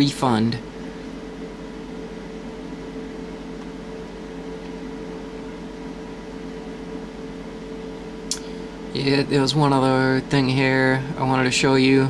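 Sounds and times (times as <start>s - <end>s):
room hum drone: 0.0s - 12.0s.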